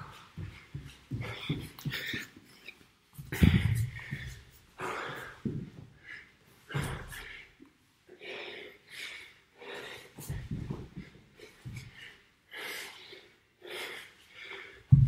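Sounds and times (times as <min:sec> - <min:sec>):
man panting: 0:00.0 - 0:15.0.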